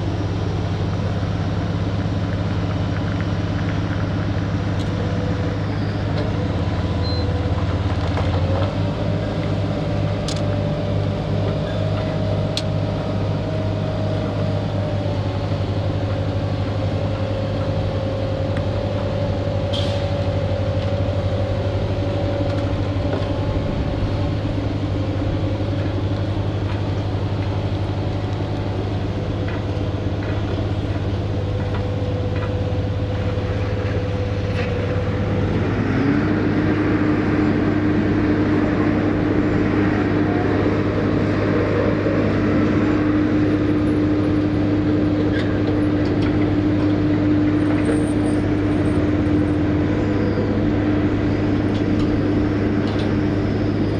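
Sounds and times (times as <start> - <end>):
heavy diesel engine idling: 0.0 - 53.9.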